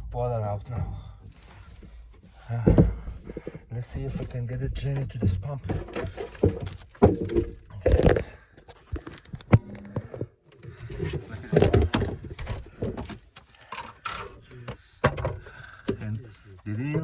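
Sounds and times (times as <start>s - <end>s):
knocks and scrapes on piping: 1.0s - 16.4s.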